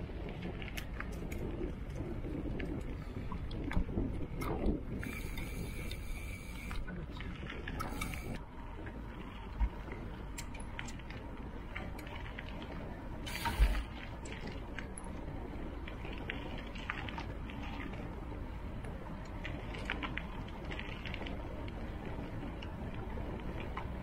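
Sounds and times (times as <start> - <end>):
bike clicks and rattles: 0.0 - 24.0
bike tyres rumbling on dirt: 0.0 - 24.0.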